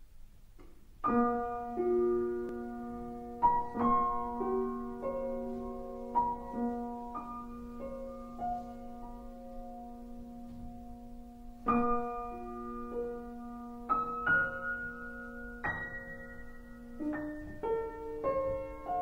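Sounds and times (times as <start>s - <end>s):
slow soft piano notes: 0.0s - 19.0s.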